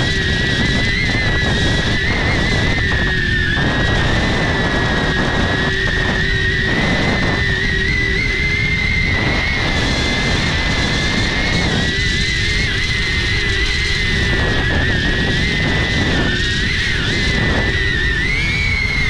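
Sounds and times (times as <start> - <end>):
drone propellers whining: 0.0 - 19.0
rush of wind: 0.0 - 19.0.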